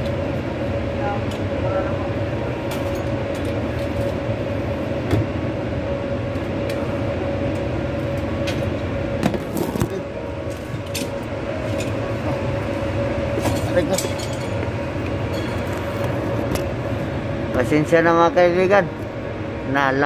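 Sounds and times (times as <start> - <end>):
mechanical hum: 0.0 - 20.0
mid-pitched whine: 0.0 - 20.0.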